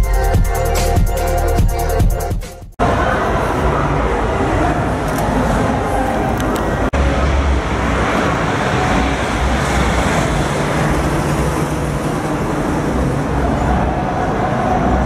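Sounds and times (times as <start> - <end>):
passing vehicles rushing: 2.8 - 15.0.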